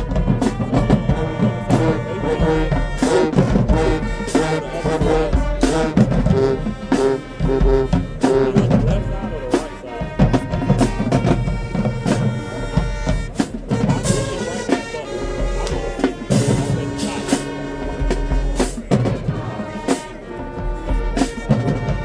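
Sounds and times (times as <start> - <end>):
brass horns: 0.0 - 22.0
marching band playing: 0.0 - 22.0
pounding drumline: 0.0 - 22.0.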